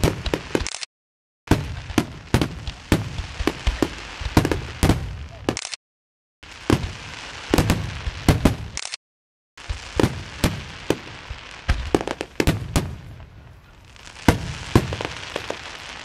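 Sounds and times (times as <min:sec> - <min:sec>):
fireworks banging: 0:00.0 - 0:00.9, 0:01.5 - 0:05.7, 0:06.4 - 0:09.0, 0:09.6 - 0:16.0
fireworks crackle: 0:00.0 - 0:00.9, 0:01.5 - 0:05.8, 0:06.4 - 0:09.0, 0:09.6 - 0:16.0.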